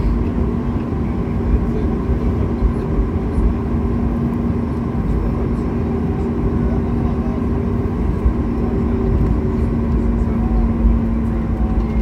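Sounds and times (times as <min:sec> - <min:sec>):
airplane cabin hum and rumble: 0:00.0 - 0:12.0.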